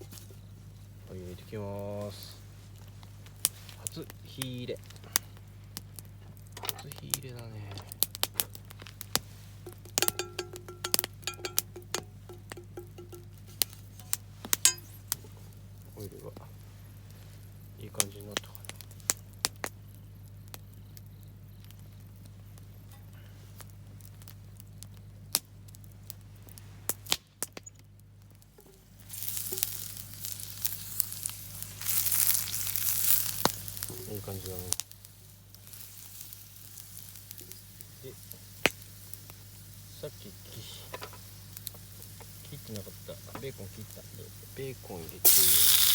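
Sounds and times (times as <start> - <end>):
garlic frying in oil: 3.1 - 45.9.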